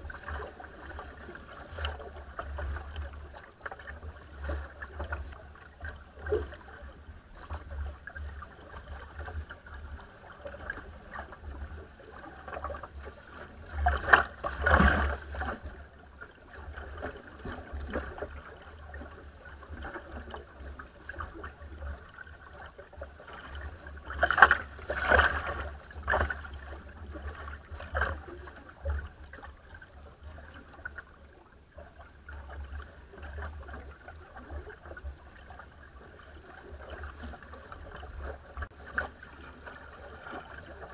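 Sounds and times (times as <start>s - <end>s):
water rushing along boat bow: 0.0s - 40.9s
waves splashing against bow: 0.0s - 40.9s.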